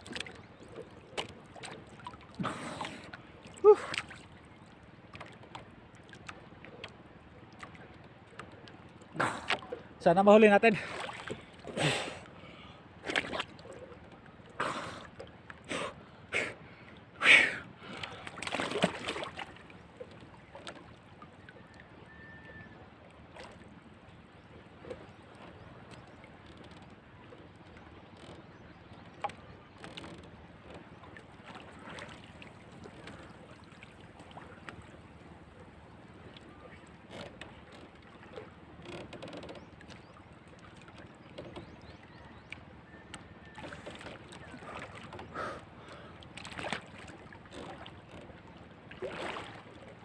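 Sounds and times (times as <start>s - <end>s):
water sloshing and gurgling: 0.0s - 50.0s.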